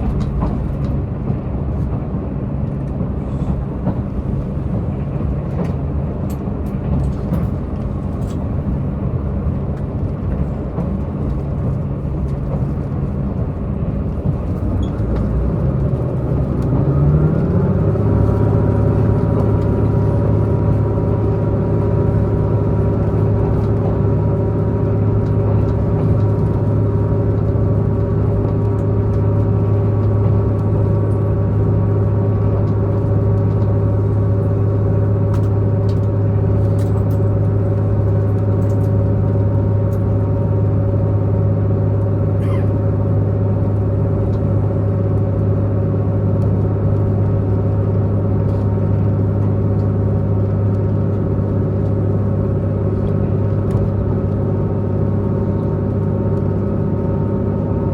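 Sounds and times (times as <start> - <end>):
diesel train engine droning: 0.0 - 57.9
train running gear rumble: 0.0 - 57.9.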